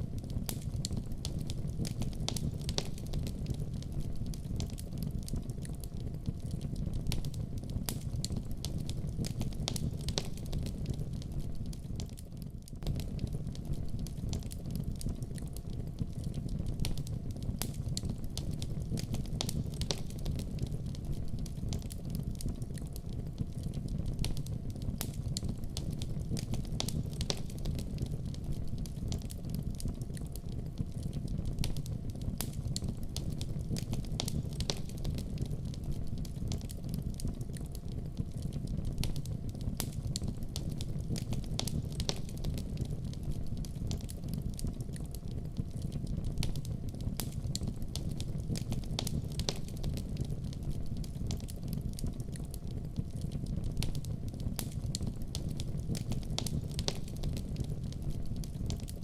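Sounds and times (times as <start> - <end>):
fire crackles and pops: 0.0 - 59.0
wood fire rumbling: 0.1 - 59.0.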